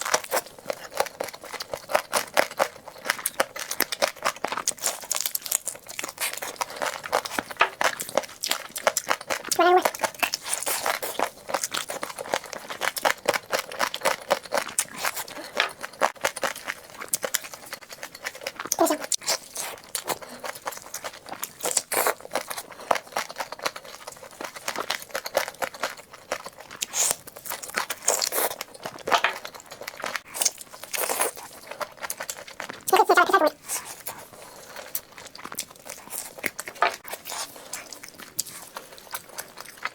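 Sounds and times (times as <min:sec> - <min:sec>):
chewing with crunches: 0:00.0 - 0:39.9.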